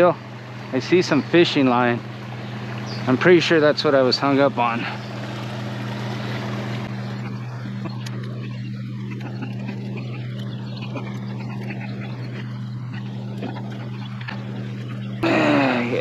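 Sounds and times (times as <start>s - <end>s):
constant rushing noise: 0.0s - 16.0s
low mechanical hum: 0.0s - 16.0s.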